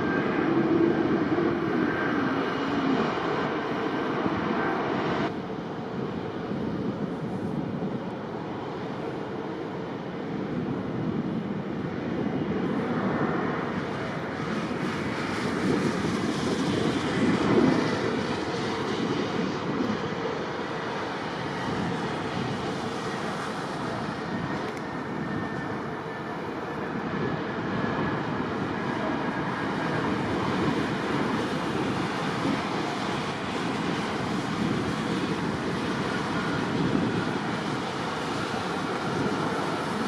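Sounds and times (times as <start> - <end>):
airplane and machinery roar: 0.0 - 40.0.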